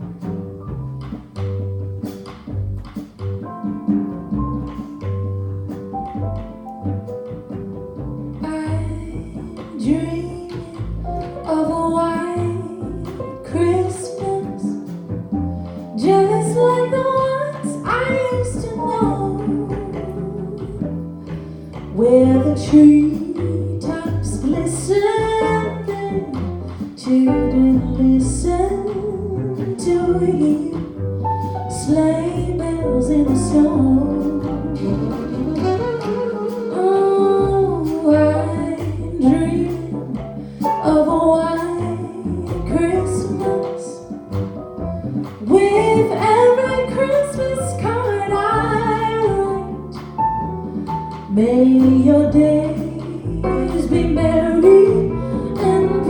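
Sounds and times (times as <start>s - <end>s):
plucked double bass: 0.0s - 56.0s
small jazz band: 0.0s - 56.0s
woman singing jazz: 8.4s - 56.0s.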